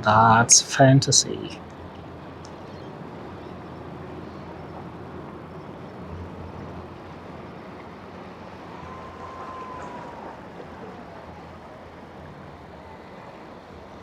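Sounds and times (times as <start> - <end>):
distant engines rumbling: 0.0 - 14.0
outdoor background noise: 0.0 - 14.0.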